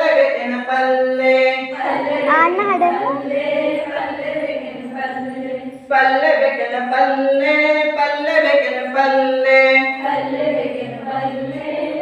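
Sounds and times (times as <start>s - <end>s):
group singing: 0.0s - 12.0s.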